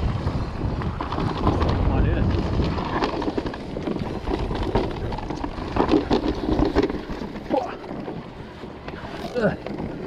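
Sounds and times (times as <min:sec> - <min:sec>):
bike rattling over rough ground: 0:00.0 - 0:10.0
wind buffeting microphone: 0:00.0 - 0:10.0.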